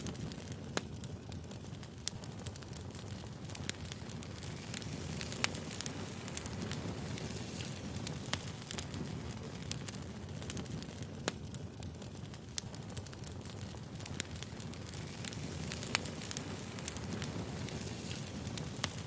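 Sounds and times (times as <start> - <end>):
burning wood crackling: 0.0 - 19.0
rumble of flames: 0.0 - 19.0.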